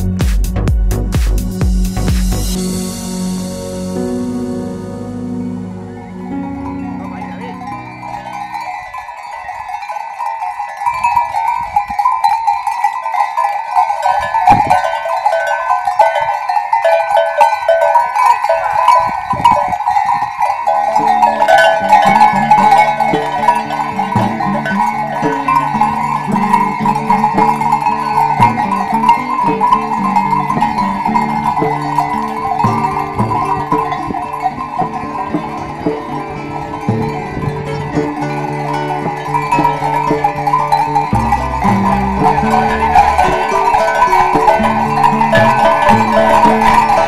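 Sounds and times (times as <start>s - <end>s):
plucked-string music: 0.0s - 10.0s, 13.9s - 47.0s
goat bells clanking: 5.2s - 47.0s.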